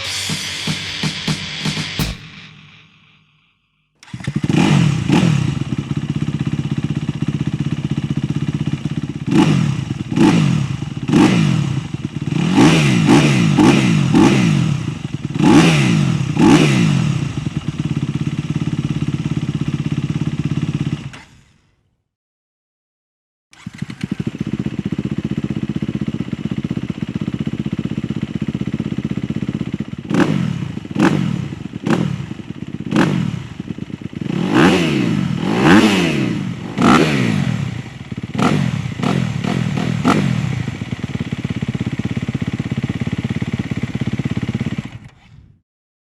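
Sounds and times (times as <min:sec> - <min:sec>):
motorcycle engine idling and revving: 0:00.1 - 0:03.3, 0:04.0 - 0:21.8, 0:23.6 - 0:45.6.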